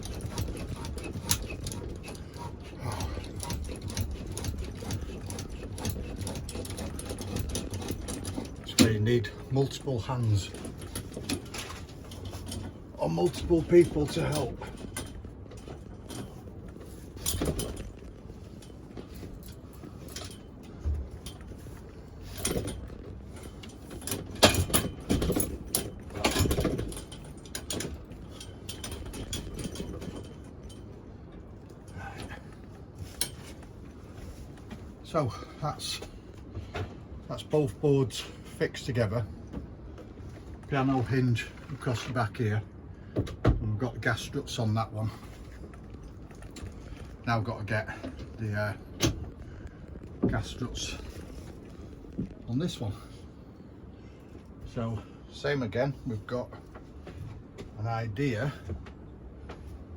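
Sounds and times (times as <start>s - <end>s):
mechanical rattling with clicks: 0.0s - 35.2s, 35.8s - 53.2s.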